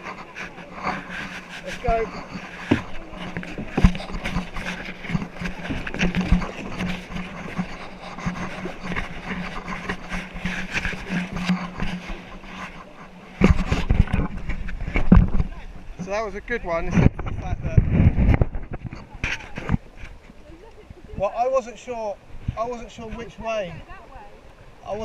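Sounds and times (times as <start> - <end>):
paddles knocking against hull: 0.0 - 21.4
wind buffeting microphone: 0.0 - 21.4
rushing river water: 0.0 - 25.0.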